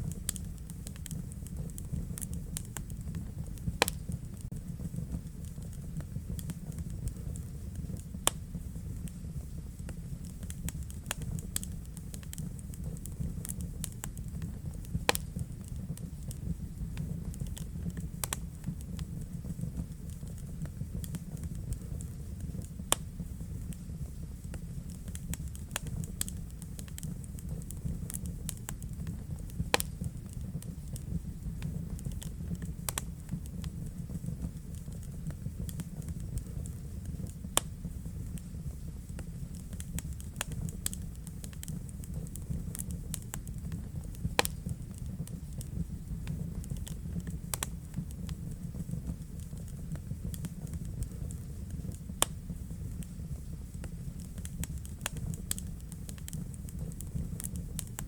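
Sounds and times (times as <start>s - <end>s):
logs crackling and popping: 0.0s - 58.0s
wood fire burning: 0.0s - 58.0s.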